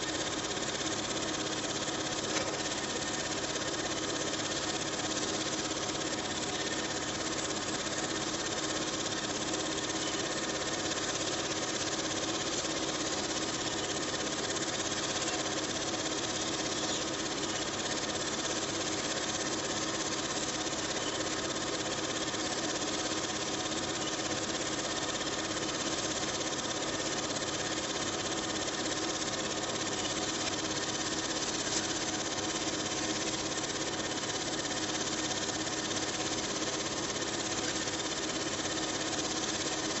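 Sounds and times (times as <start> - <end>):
film projector whirring: 0.0 - 40.0.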